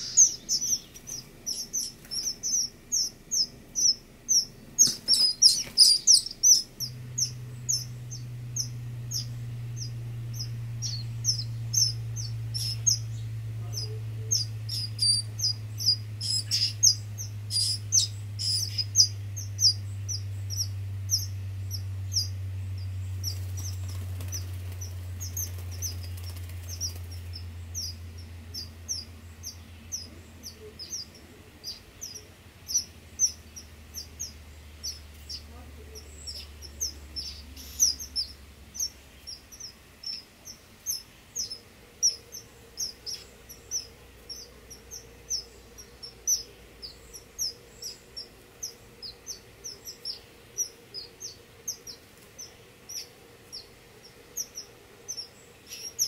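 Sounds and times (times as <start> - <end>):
low steady hum: 0.0 - 56.0
nestlings chirping: 0.0 - 56.0.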